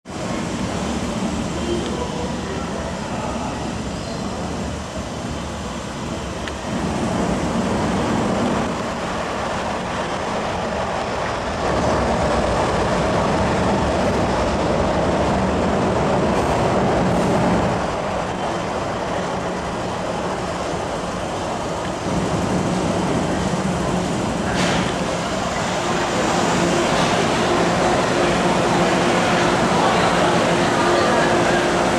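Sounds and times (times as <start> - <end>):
train passing rumble: 0.1 - 31.9.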